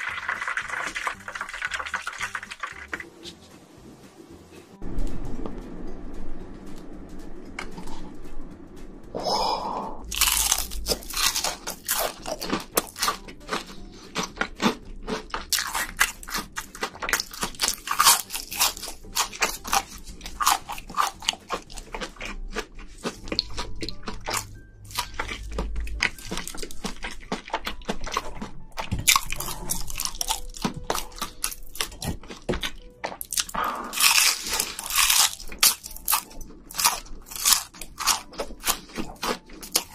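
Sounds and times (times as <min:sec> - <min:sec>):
crunching and chewing fried food: 0:00.0 - 0:03.1, 0:10.0 - 0:39.9.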